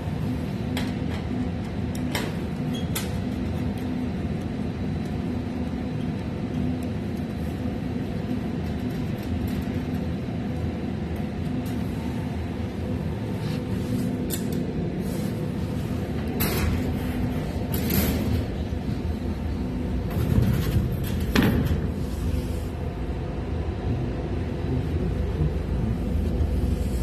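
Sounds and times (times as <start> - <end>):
air conditioner hum and fan: 0.0 - 27.0.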